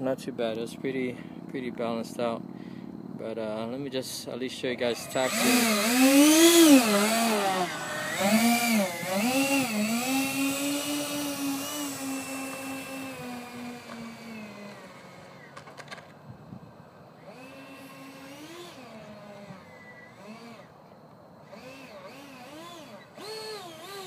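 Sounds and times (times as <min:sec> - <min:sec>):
electric ducted fans whining: 0:00.0 - 0:24.0.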